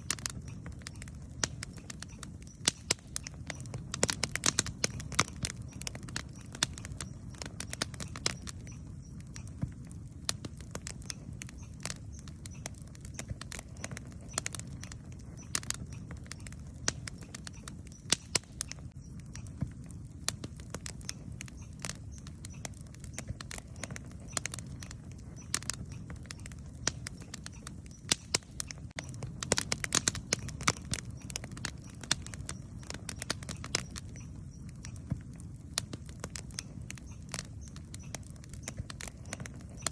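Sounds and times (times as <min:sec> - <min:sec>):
campfire flame rumble: 0:00.0 - 0:39.9
fire crackling and popping: 0:00.0 - 0:39.9.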